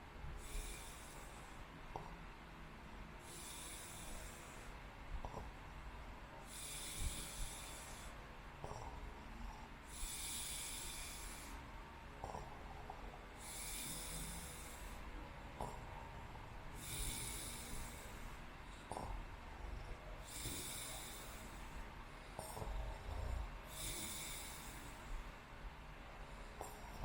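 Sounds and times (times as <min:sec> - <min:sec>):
person breathing noisily in sleep: 0:00.4 - 0:02.1, 0:03.2 - 0:05.6, 0:06.4 - 0:25.4, 0:26.2 - 0:27.0.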